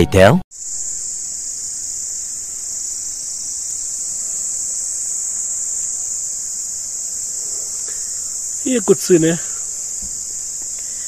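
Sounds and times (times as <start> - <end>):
insects droning: 0.2 - 11.0.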